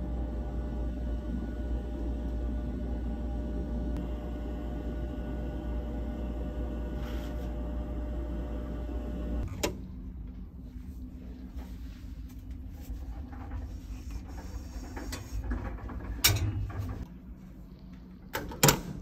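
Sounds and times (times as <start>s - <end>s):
fan and lamps humming: 0.0s - 19.0s.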